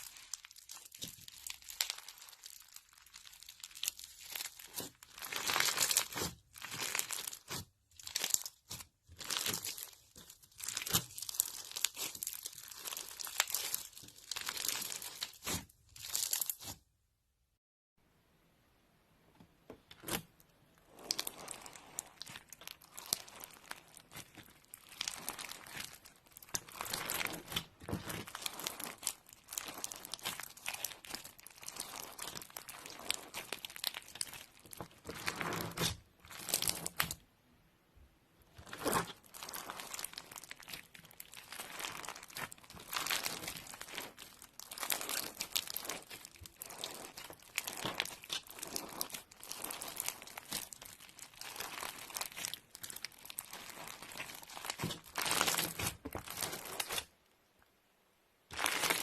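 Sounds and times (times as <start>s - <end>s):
slime squeezed by hand crackling: 0.0s - 16.8s, 20.9s - 37.2s, 38.6s - 57.1s, 58.5s - 59.0s.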